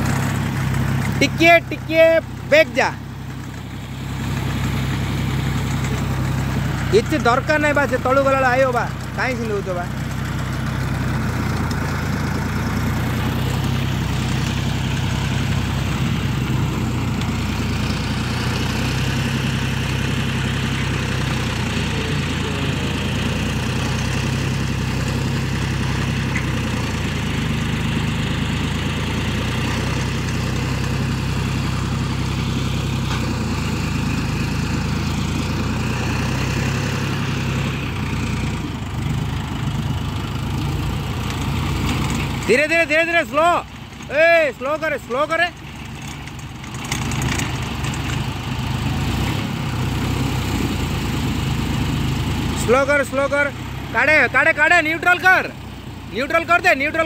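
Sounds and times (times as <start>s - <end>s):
earth auger drilling soil: 0.0s - 57.0s
tractor diesel engine running: 0.0s - 57.0s.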